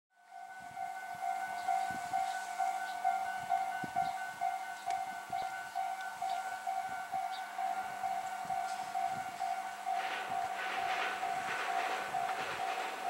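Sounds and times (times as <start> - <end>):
level crossing alarm pulsing: 0.3 - 13.0.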